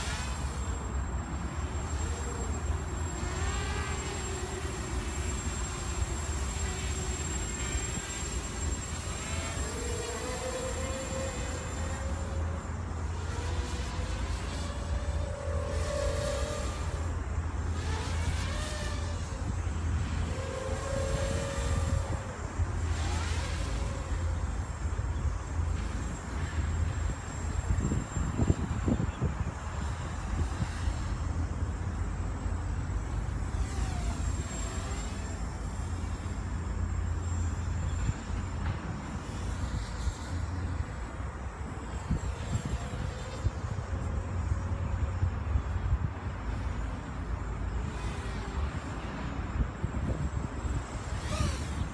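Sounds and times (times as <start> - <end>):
quadcopter propellers whining: 0.0 - 51.9
wind rumble on microphone: 0.0 - 51.9.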